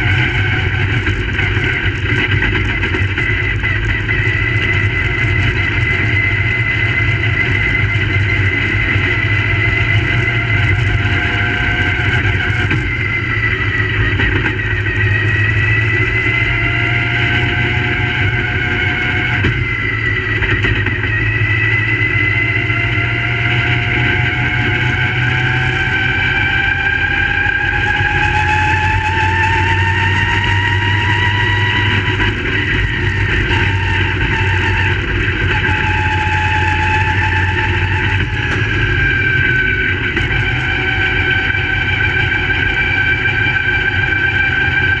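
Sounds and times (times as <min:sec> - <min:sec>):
race car engines at speed: 0:00.0 - 0:45.0.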